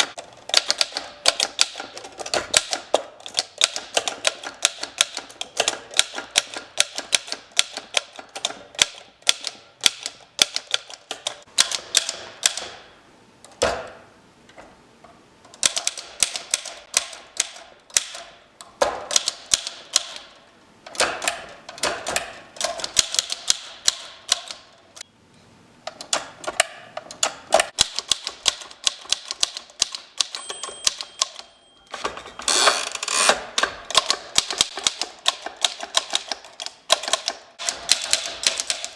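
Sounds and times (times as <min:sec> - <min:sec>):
typewriter heavy knock: 0:00.0 - 0:12.9, 0:15.6 - 0:20.2, 0:20.9 - 0:24.5, 0:27.6 - 0:31.4, 0:32.0 - 0:38.9
typewriter keys clacking: 0:00.0 - 0:12.9, 0:15.5 - 0:25.0, 0:25.9 - 0:38.9.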